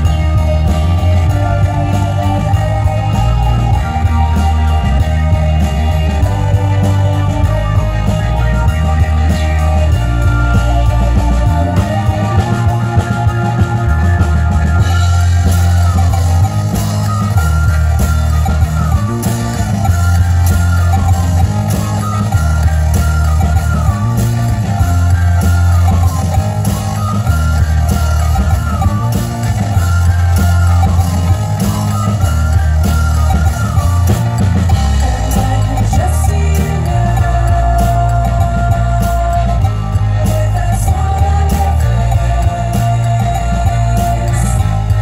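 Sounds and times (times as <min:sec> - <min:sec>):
accordion: 0:00.0 - 0:45.0
drum kit: 0:00.0 - 0:45.0
electric bass line: 0:00.0 - 0:45.0
electric guitar riff: 0:00.0 - 0:45.0.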